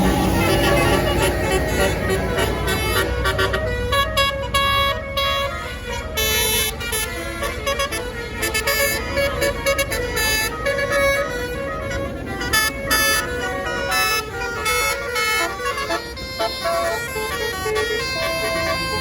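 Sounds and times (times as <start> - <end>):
bus engine running: 0.0 - 19.0
multi-tone bus horn melody: 0.0 - 19.0.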